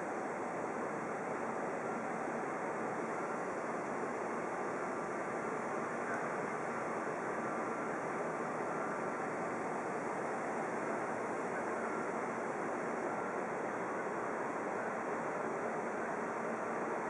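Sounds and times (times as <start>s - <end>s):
continuous rushing hiss: 0.0s - 17.0s.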